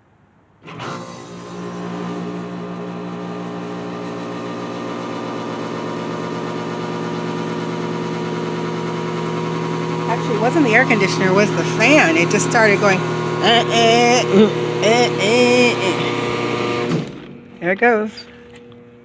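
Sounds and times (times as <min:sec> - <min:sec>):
air conditioner fan humming: 0:00.8 - 0:17.2.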